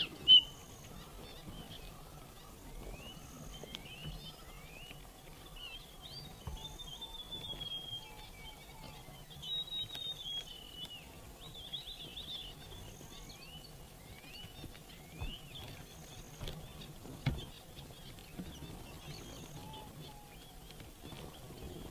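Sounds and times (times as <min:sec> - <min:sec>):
finches chirping: 0:00.0 - 0:21.9.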